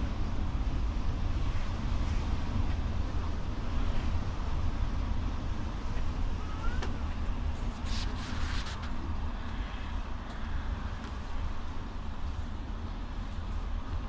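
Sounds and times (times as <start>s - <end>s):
coach engine rumble: 0.0s - 14.0s
road noise inside cabin: 0.0s - 14.0s.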